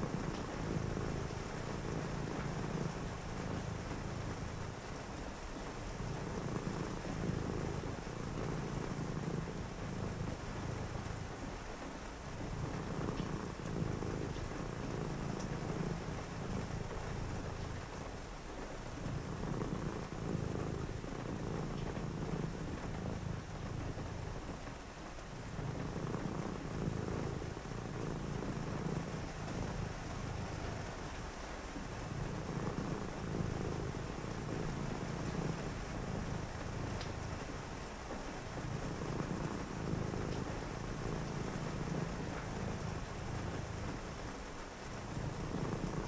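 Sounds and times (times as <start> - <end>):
cat purring: 0.0 - 46.0.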